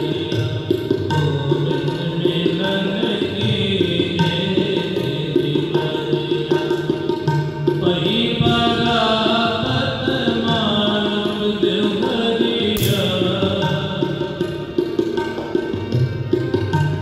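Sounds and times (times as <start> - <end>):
devotional chanting with instruments: 0.0 - 17.0.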